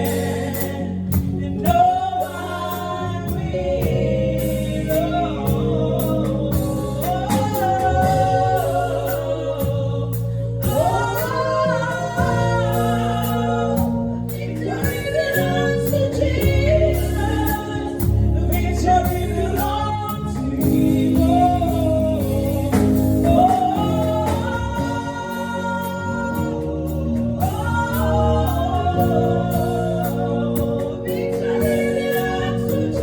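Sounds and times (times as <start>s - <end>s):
instrumental backing: 0.0s - 33.0s
voices singing gospel song: 0.0s - 33.0s.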